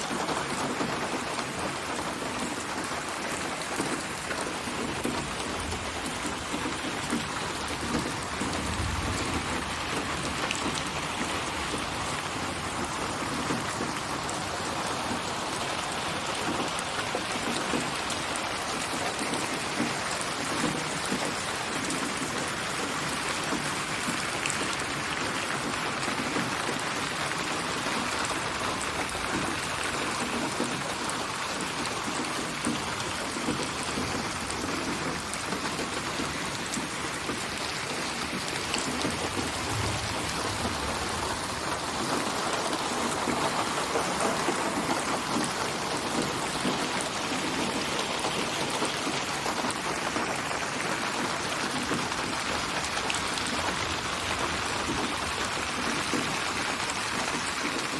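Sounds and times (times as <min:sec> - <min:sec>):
rain pattering on surfaces: 0:00.0 - 0:57.9.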